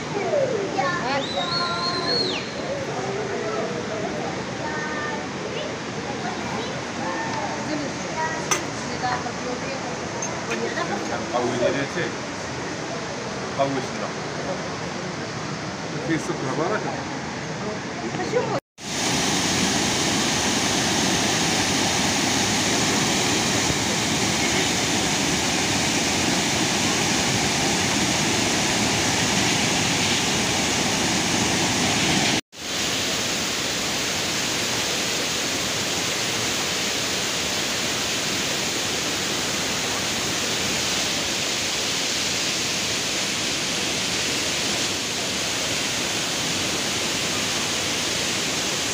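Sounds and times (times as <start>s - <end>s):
waterfall rushing into pool: 0.0s - 48.9s.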